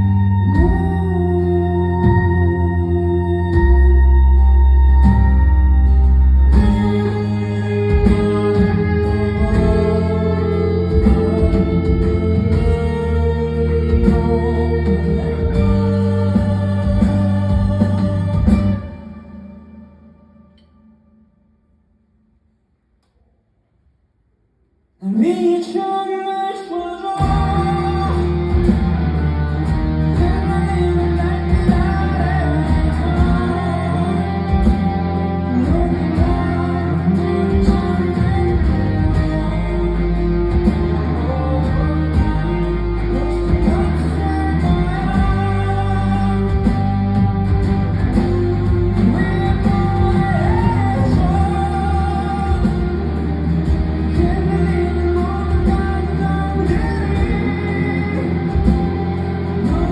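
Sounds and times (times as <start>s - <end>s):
live rock band playing: 0.0s - 20.2s, 27.1s - 59.9s
person singing: 0.0s - 20.9s, 25.0s - 59.9s.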